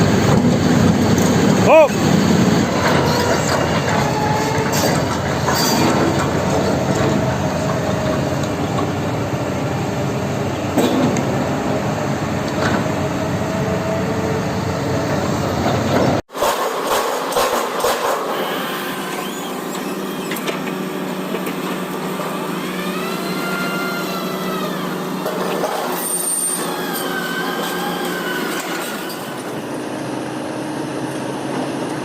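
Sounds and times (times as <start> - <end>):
diesel machinery running: 0.0 - 32.0.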